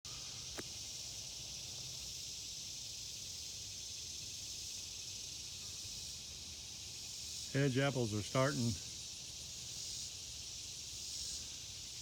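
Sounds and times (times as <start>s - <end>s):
insects chorus buzzing: 0.1s - 12.0s.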